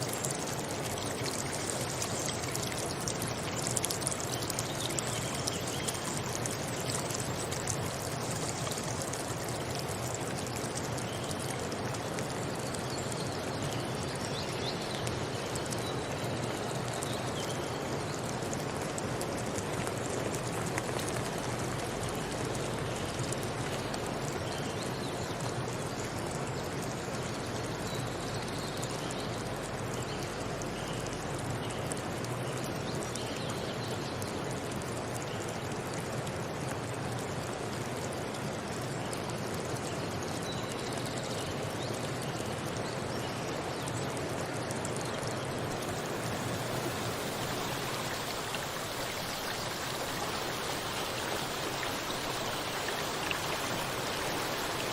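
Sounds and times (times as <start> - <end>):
flowing water rushing: 0.0 - 54.9.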